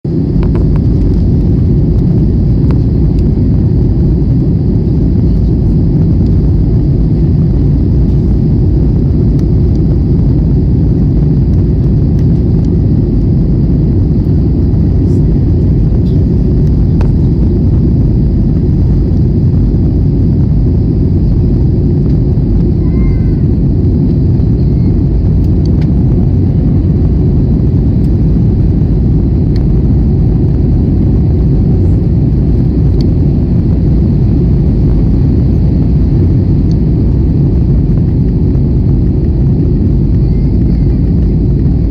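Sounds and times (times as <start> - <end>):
airliner engine drone in cabin: 0.0 - 41.9.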